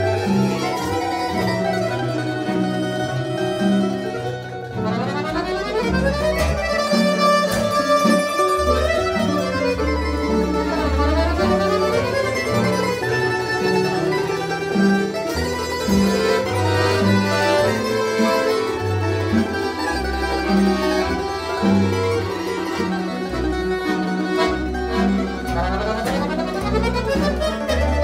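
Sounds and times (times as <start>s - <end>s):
accordion: 0.0s - 28.0s
plucked double bass: 0.0s - 28.0s
tamburas strumming and picking: 0.0s - 28.0s.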